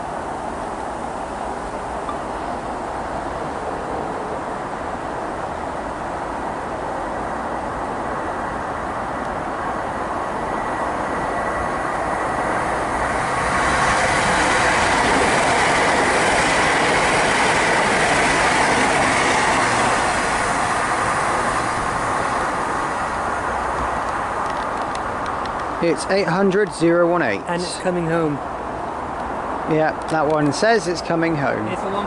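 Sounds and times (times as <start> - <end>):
train passing at speed: 0.0 - 32.0.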